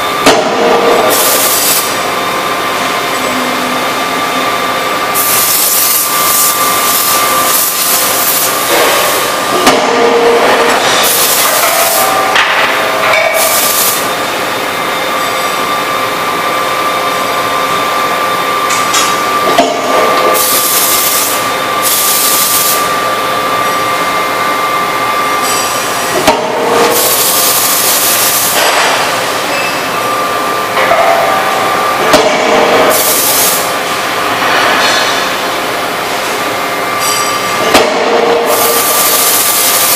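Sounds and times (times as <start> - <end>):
machine whine: 0.0 - 39.9.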